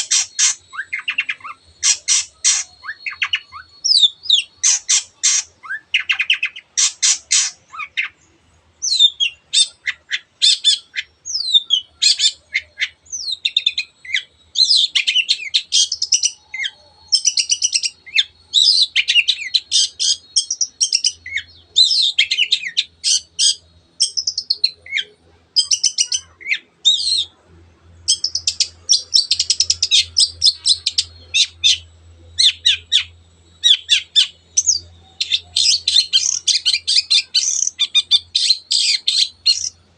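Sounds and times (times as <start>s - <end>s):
shrike singing: 0.0s - 27.4s, 28.1s - 39.9s.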